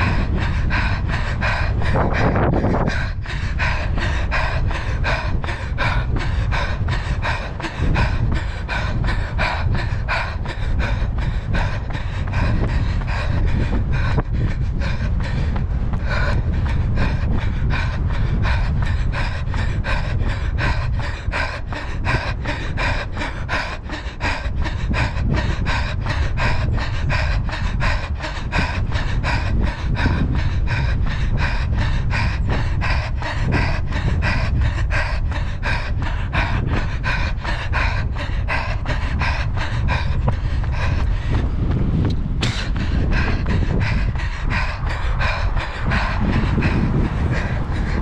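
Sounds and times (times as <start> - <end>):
low wind rumble on microphone: 0.0 - 48.0
runner panting: 0.0 - 48.0.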